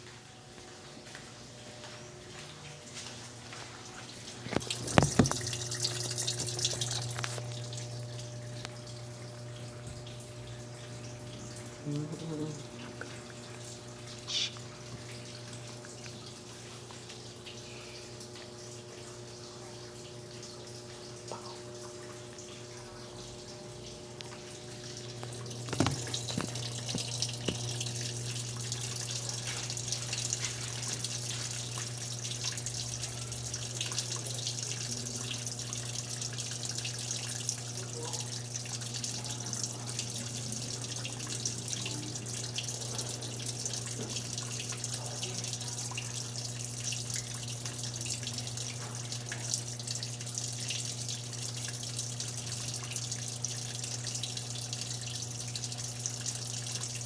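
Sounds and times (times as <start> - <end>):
washing machine low hum: 0.0 - 57.0
water pouring and splashing: 1.0 - 57.0.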